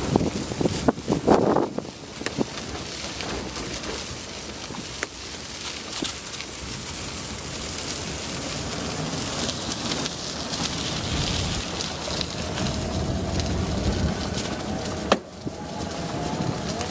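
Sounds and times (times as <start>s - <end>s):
tyre noise on asphalt: 0.0s - 16.9s.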